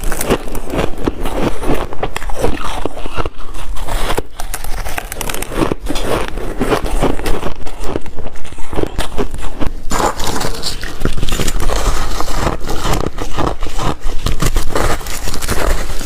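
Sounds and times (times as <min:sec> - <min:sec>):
person crunching shaved ice: 0:00.0 - 0:16.0.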